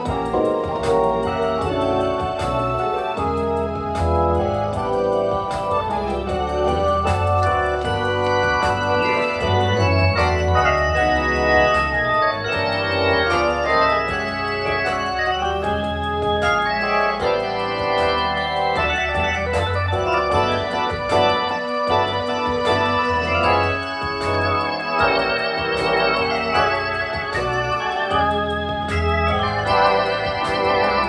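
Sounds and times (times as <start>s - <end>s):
low bass pedal notes: 0.0s - 31.0s
organ playing chords: 0.0s - 31.0s.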